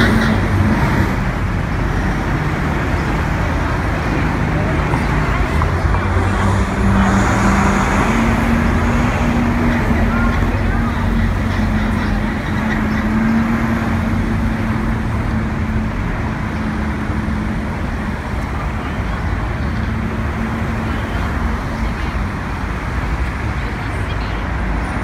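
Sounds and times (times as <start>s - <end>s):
cars passing close by: 0.0s - 25.0s
steady engine hum: 0.0s - 25.0s
steady road noise roar: 0.0s - 25.0s.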